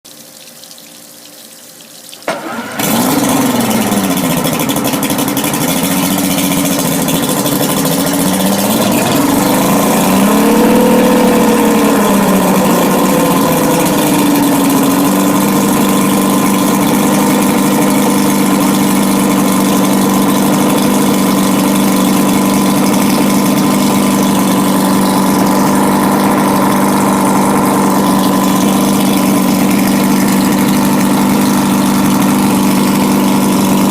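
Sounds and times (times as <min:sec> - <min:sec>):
outboard motor revving and idling: 0:02.3 - 0:33.9.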